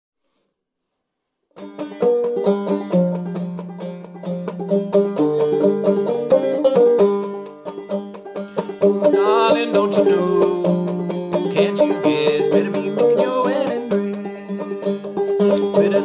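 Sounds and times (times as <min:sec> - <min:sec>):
banjo played clawhammer style: 0:01.5 - 0:16.0.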